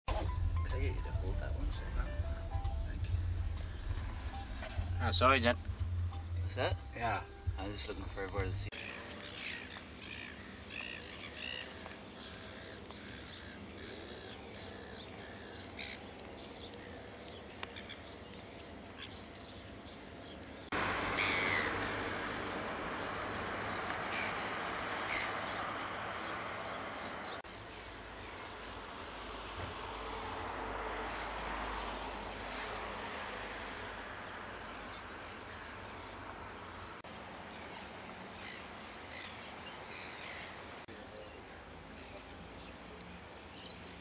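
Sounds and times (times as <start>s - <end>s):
birds chirping: 0.1s - 30.0s, 34.2s - 44.0s.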